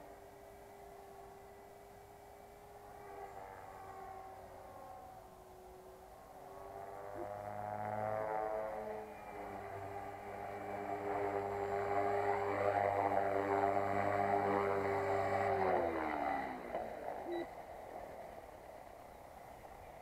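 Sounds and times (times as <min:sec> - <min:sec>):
rc helicopter rotor whine: 0:00.0 - 0:20.0.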